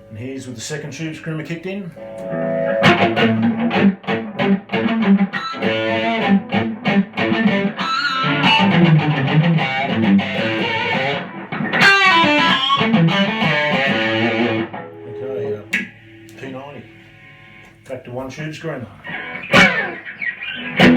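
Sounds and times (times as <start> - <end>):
overdriven electric guitar lead: 2.0 - 17.8, 19.1 - 20.9.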